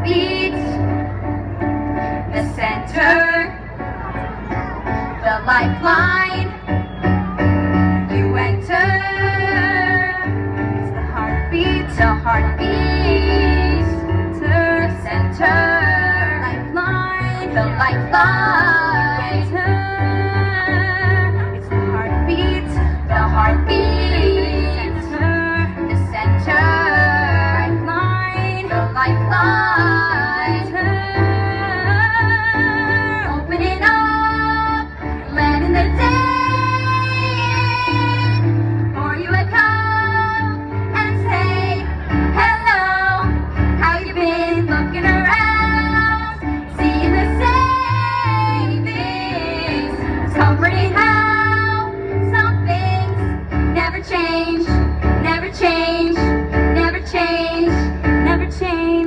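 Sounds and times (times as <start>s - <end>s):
women singing in harmony: 0.0s - 1.0s, 2.3s - 3.6s, 5.2s - 6.6s, 8.1s - 59.0s
instrumental accompaniment with bass: 0.0s - 59.0s.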